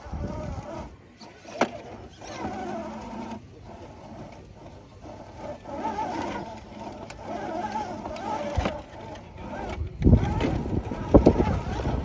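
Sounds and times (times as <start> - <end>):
rc car electric motor whining: 0.0 - 12.0.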